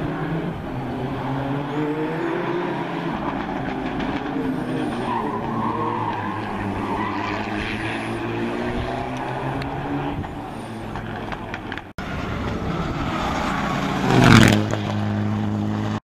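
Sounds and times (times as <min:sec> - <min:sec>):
rally car engine revving: 0:00.0 - 0:16.0
road noise: 0:00.0 - 0:16.0.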